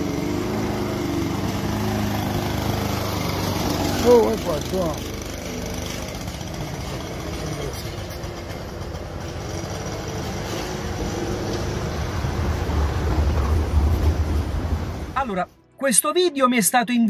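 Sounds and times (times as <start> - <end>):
vehicle engine rumbling: 0.0 - 15.3
street traffic: 0.0 - 16.7.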